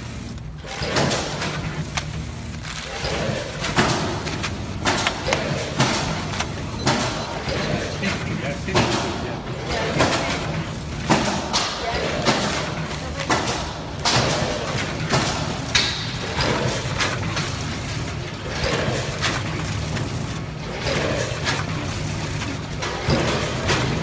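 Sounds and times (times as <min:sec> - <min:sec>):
machine clacking and rattling: 0:00.0 - 0:24.0
machine humming: 0:00.0 - 0:24.0.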